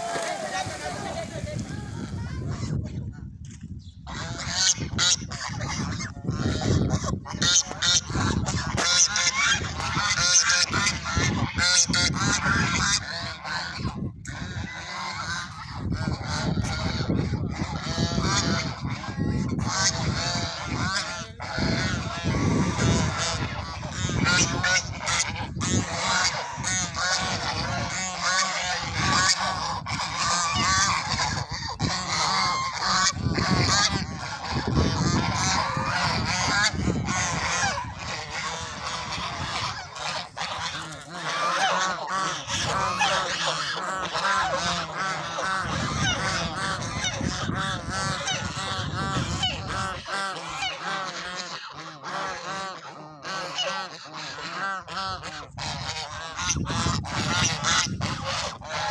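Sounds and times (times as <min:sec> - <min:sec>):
geese honking: 0:00.0 - 0:02.8, 0:04.0 - 0:58.9.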